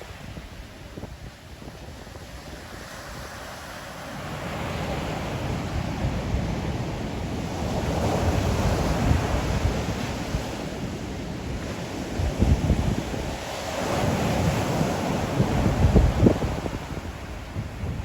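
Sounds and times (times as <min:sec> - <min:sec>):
wind buffeting microphone: 0:00.0 - 0:03.5, 0:04.2 - 0:18.0.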